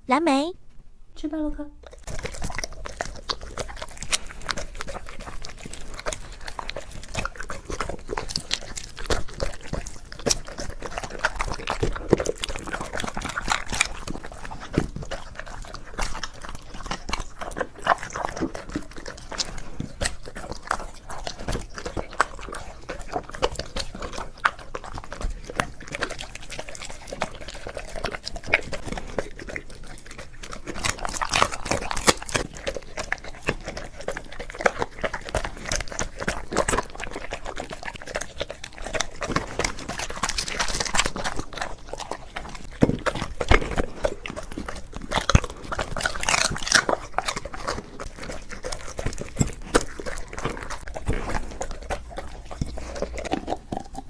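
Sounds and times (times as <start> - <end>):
dog chewing and crunching bone: 1.8 - 54.0.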